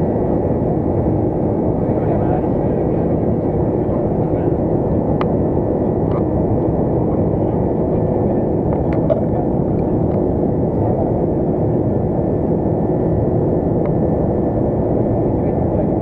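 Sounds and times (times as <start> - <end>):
aircraft cabin engine drone: 0.0 - 16.0.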